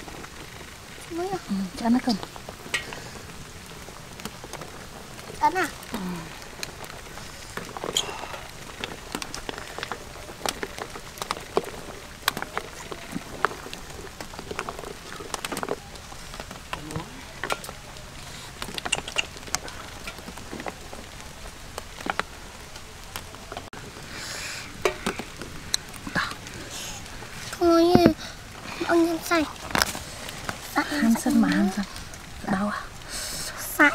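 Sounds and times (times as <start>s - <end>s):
broth boiling with hiss: 0.0s - 33.9s
wood fire popping and crackling: 0.0s - 33.9s.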